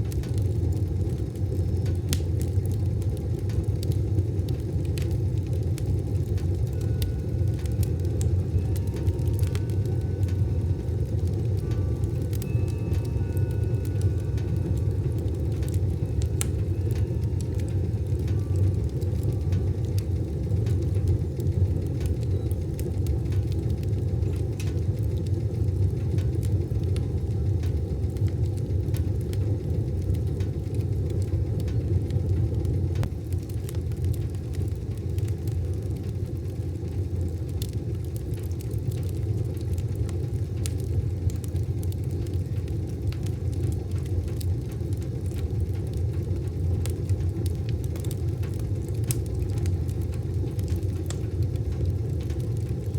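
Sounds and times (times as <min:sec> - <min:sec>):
fire crackling and popping: 0:00.0 - 0:52.9
wood fire rumbling: 0:00.0 - 0:52.9.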